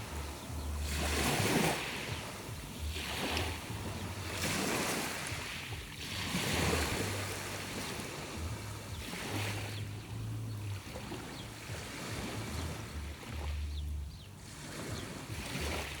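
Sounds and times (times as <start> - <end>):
sea waves washing ashore: 0.0 - 16.0
wind buffeting microphone: 0.0 - 16.0.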